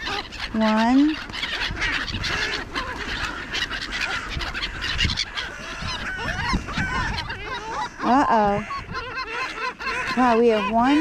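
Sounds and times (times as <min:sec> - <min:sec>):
flock of birds chattering: 0:00.0 - 0:11.0.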